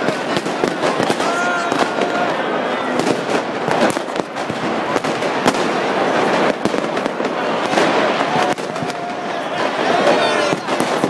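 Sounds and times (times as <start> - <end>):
crowd din: 0.0 - 11.0
firecrackers banging: 0.0 - 11.0.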